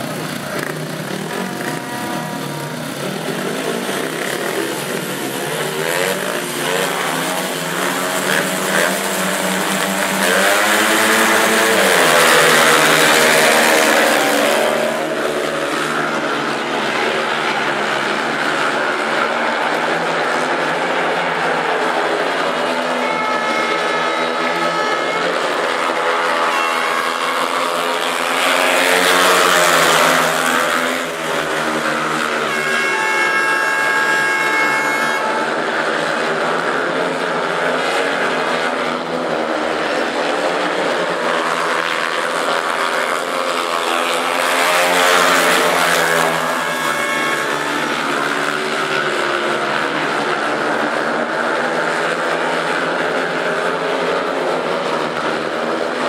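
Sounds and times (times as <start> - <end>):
motorcycles racing: 0.0 - 56.0.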